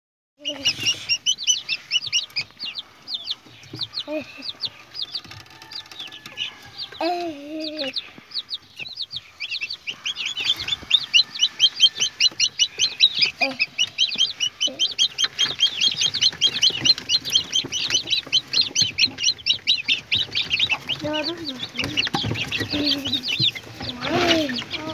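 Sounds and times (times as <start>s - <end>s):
chicks peeping: 0.4s - 24.9s.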